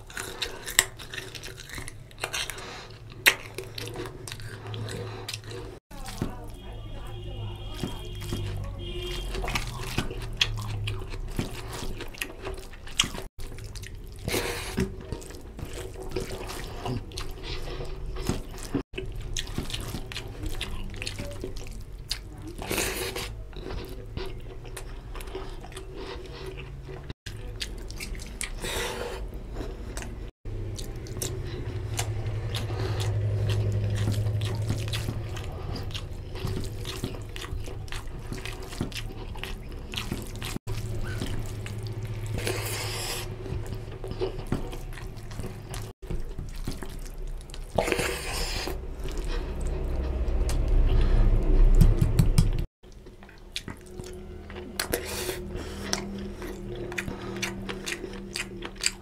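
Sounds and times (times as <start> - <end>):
chewing and lip smacking: 0.0 - 6.6, 7.6 - 51.9, 52.6 - 59.0.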